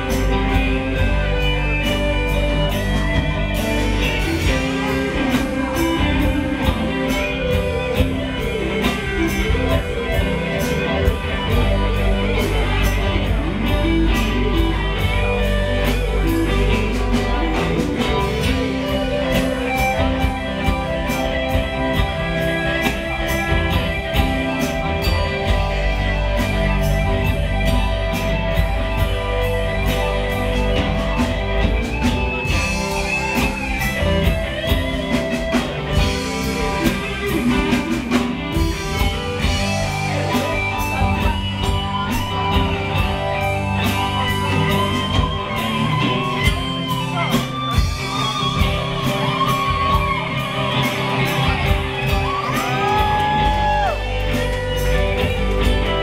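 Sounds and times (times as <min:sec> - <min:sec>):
bass guitar: 0:00.0 - 0:56.0
drum kit beat: 0:00.0 - 0:56.0
electric guitars: 0:00.0 - 0:56.0.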